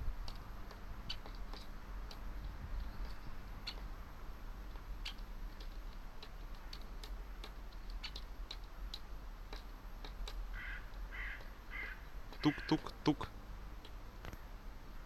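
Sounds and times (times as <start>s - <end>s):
woodpecker tapping on wood: 0.2s - 4.0s, 4.6s - 14.4s.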